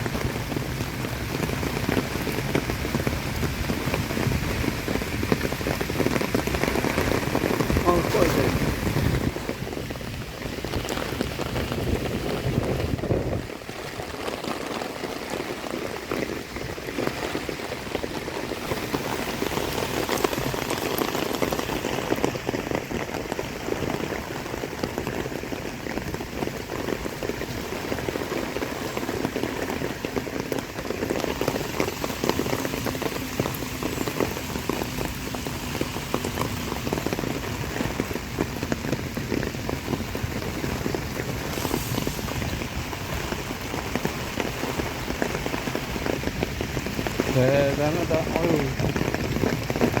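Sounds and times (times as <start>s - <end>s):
heavy rain pouring: 0.0s - 50.0s.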